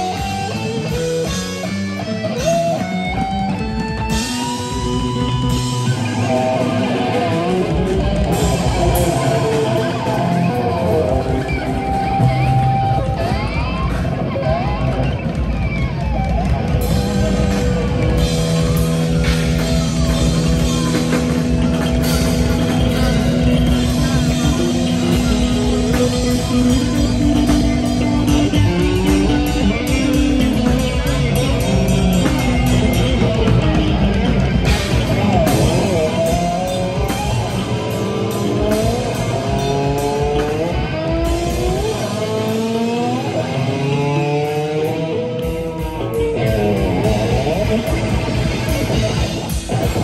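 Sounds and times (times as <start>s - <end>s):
lead guitar bending notes: 0.0s - 50.0s
metal band playing live: 0.0s - 50.0s.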